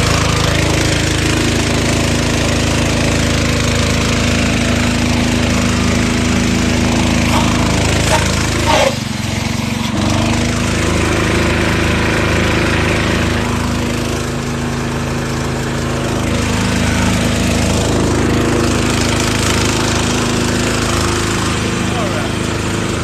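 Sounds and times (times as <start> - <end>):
generator engine running: 0.0 - 23.0.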